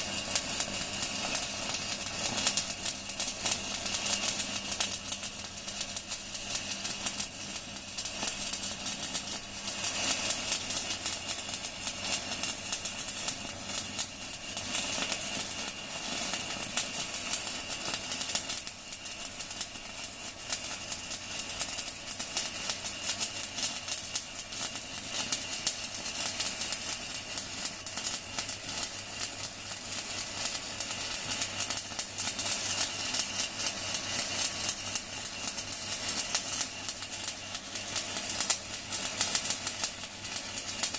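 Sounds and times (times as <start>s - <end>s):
welding arc crackling: 0.0s - 40.9s.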